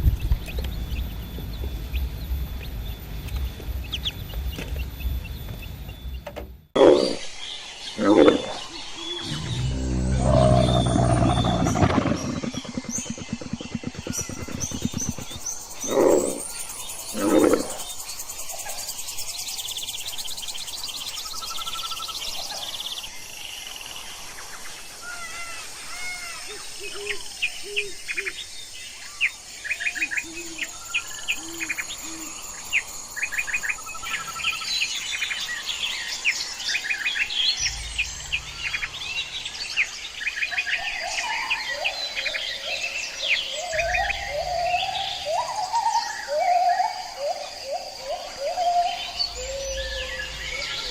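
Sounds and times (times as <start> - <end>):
small birds chirping and singing: 0.0 - 50.9.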